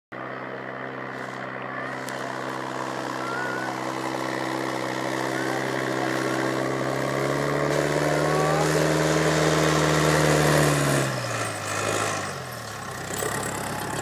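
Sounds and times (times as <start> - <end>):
tractor engine driving past: 0.1 - 14.0.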